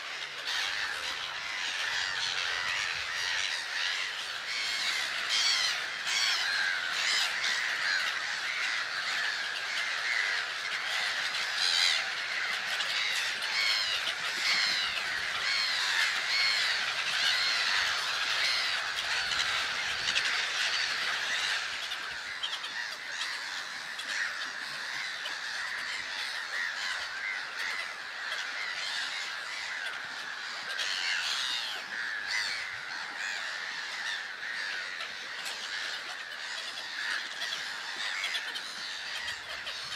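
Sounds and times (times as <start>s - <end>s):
gull colony calling: 0.0s - 39.9s.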